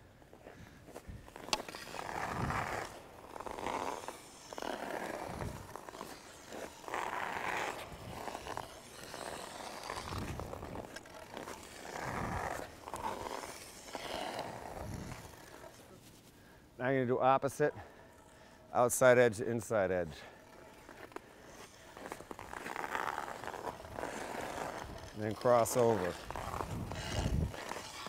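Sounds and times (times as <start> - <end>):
skate blades scraping ice: 0.0 - 28.0.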